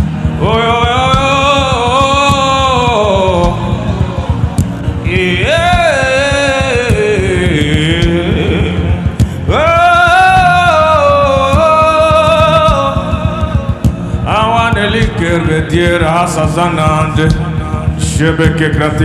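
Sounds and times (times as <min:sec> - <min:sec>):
instrumental backing with beat: 0:00.0 - 0:19.0
man singing worship music: 0:00.0 - 0:19.0.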